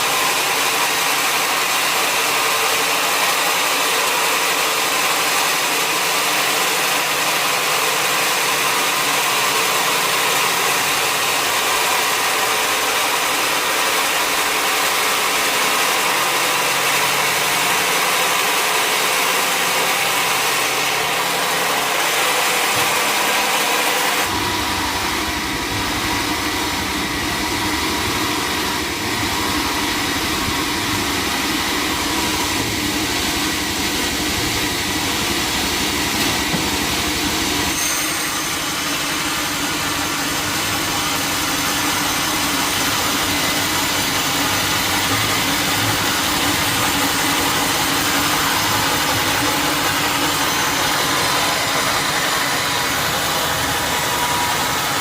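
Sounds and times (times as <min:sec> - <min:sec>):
sawmill machinery drone and hiss: 0:00.0 - 0:55.0.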